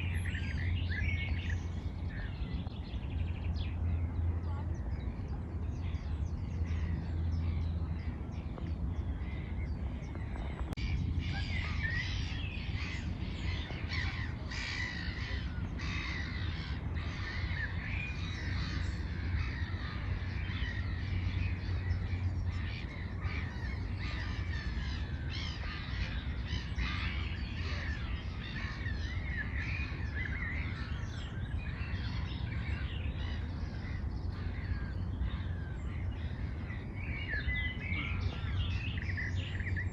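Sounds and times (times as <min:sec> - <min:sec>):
low steady rumble: 0:00.0 - 0:39.9
many birds calling: 0:00.0 - 0:39.9.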